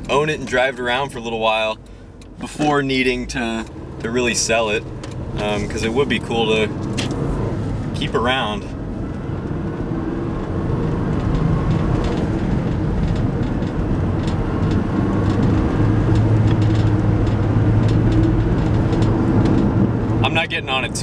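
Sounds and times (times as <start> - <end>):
car engine pulling: 0.0 - 21.0
tyre and road rumble: 0.0 - 21.0.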